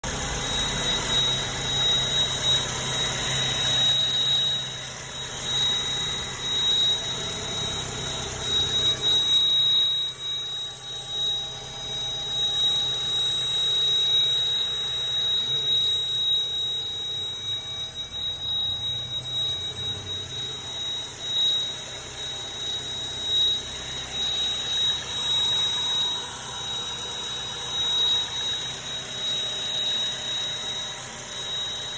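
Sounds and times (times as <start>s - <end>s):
car engine idle hum: 0.0s - 31.9s
high-pitched ringing whine: 0.0s - 31.9s.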